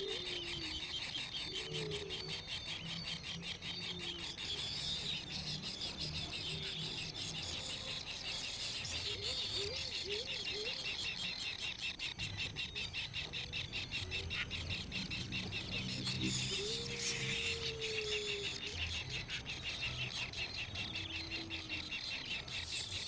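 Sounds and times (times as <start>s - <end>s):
baby birds chirping: 0.0s - 23.0s.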